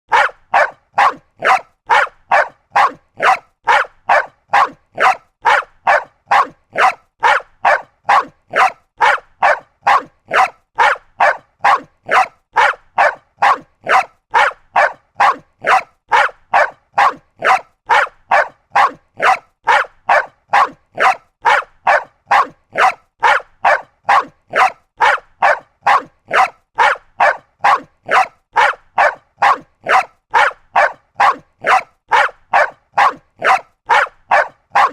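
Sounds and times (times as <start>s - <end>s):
small dog barking: 0.1s - 34.9s.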